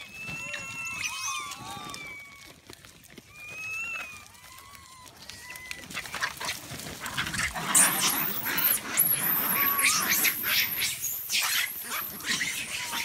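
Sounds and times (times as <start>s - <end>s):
monkeys screaming and shrieking: 0.0s - 2.6s, 3.3s - 13.0s.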